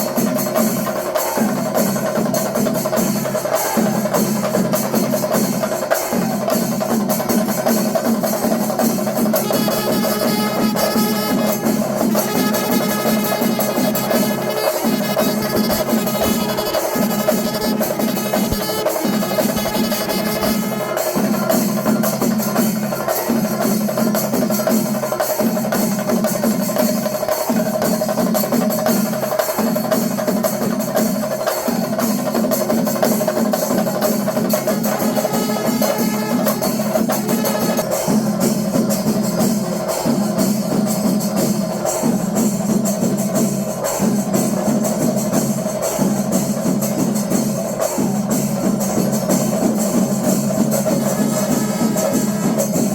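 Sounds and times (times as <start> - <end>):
temple percussion ensemble drumming: 0.0 - 52.9.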